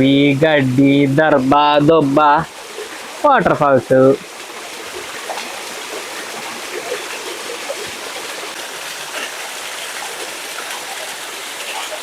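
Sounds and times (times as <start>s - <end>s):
waterfall splashing over rocks: 0.0s - 12.0s.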